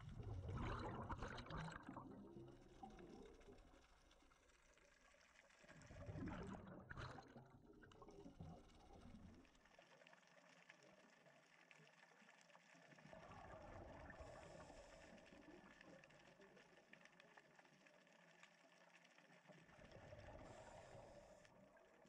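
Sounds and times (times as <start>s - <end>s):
underwater exhaled bubbles: 0.0s - 22.0s.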